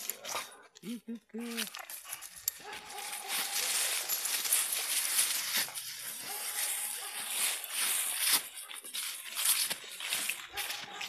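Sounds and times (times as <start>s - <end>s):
footsteps crunching dry leaves: 1.3s - 11.0s.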